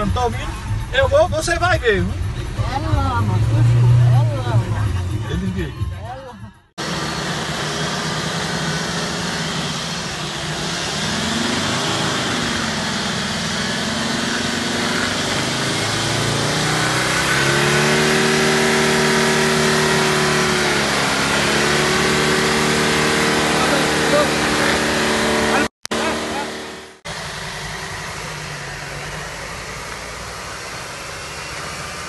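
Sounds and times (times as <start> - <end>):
engine revving under load: 1.8 - 5.9, 6.8 - 32.0.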